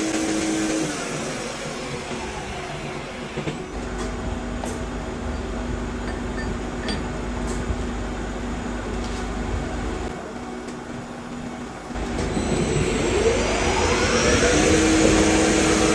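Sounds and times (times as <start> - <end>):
constant machine tone: 0.0 - 15.9
metalworking machinery humming: 0.0 - 15.9.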